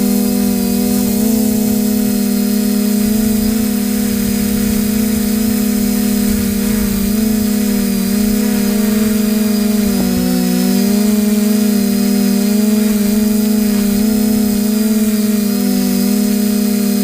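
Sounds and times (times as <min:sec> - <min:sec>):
machine hum with wavering tones: 0:00.0 - 0:17.0.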